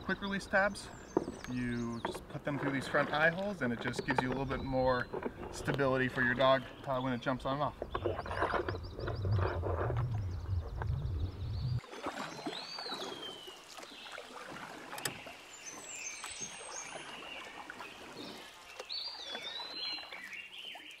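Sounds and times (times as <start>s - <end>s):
water sloshing and dripping: 0.6s - 21.0s.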